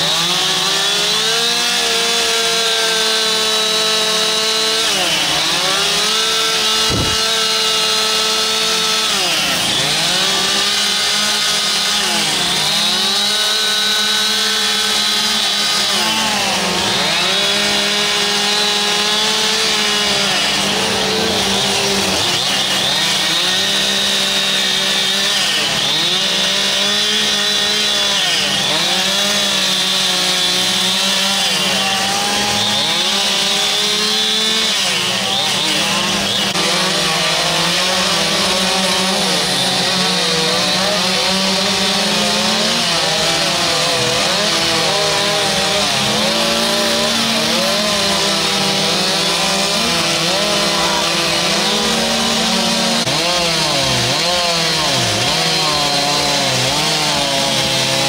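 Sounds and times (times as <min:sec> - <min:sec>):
chainsaws revving: 0:00.0 - 0:58.0.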